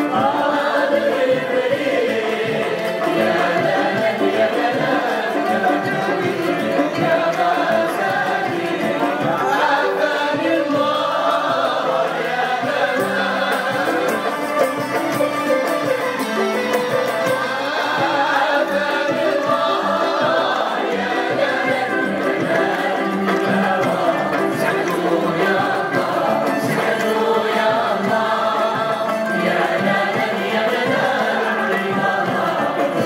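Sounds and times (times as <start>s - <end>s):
group singing in unison: 0.0s - 33.0s
string ensemble playing: 0.0s - 33.0s.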